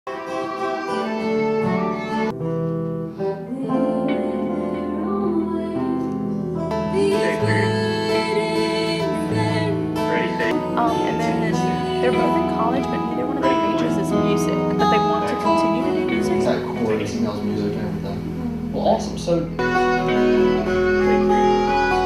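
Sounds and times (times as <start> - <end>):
acoustic guitar: 0.1 - 22.0
bowed string line: 3.8 - 22.0.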